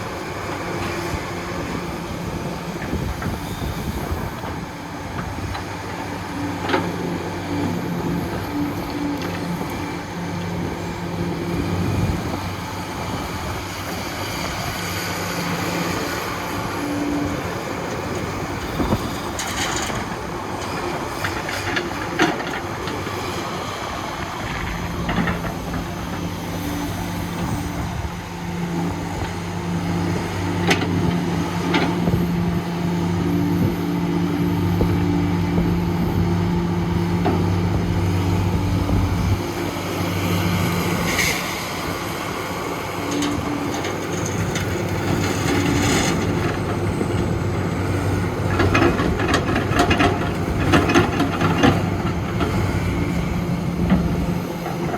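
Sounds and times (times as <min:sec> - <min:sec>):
diesel machinery engine running: 0:00.0 - 0:54.9.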